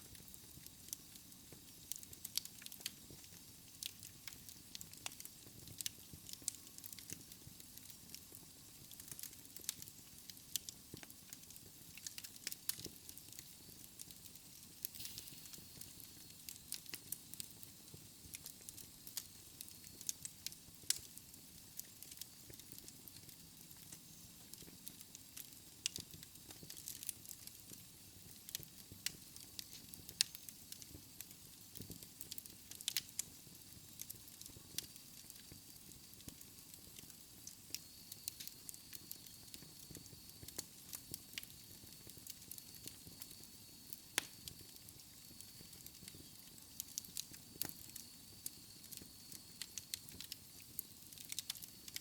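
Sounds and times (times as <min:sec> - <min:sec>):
logs crackling and popping: 0:00.0 - 0:52.0.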